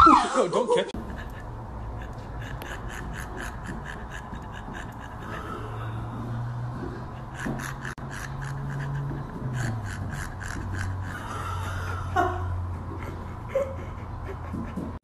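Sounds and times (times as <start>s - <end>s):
dog rasping gasps: 1.0s - 15.0s.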